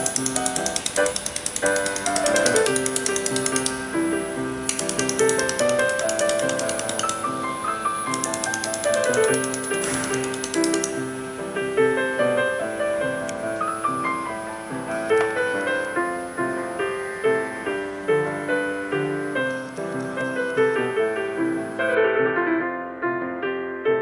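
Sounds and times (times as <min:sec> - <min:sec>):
background piano music: 0:00.0 - 0:24.0.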